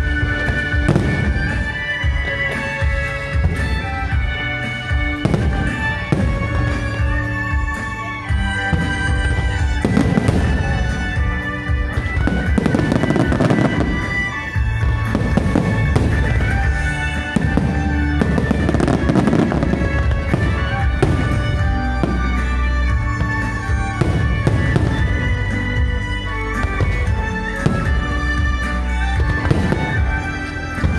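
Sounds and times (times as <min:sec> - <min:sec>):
firework crackling: 0:00.0 - 0:30.9
music: 0:00.0 - 0:30.9.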